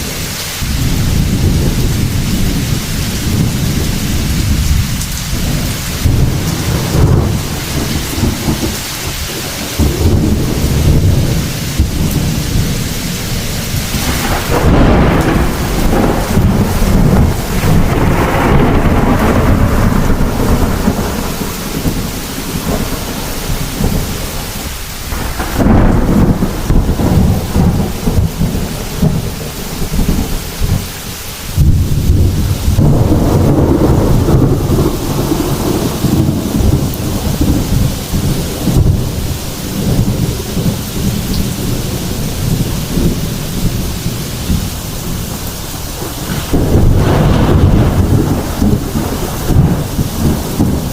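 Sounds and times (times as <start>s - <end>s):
rolling thunder: 0.0s - 50.9s
steady rain: 0.0s - 50.9s.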